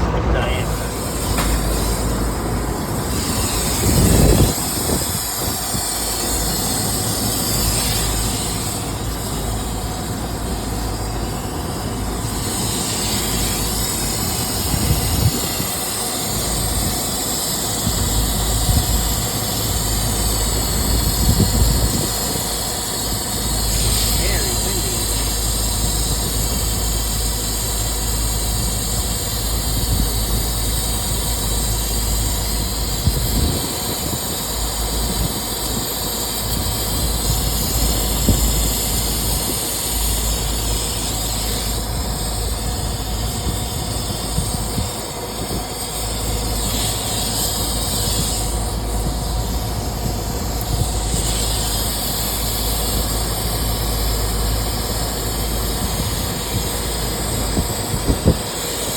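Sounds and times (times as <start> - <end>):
machinery drone: 0.0 - 58.9.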